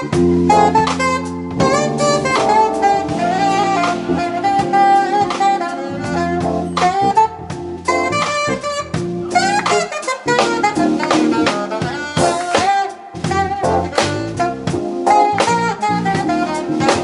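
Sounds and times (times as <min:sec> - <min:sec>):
jazz quartet playing: 0:00.0 - 0:17.0
saxophone bending long notes: 0:00.0 - 0:17.0.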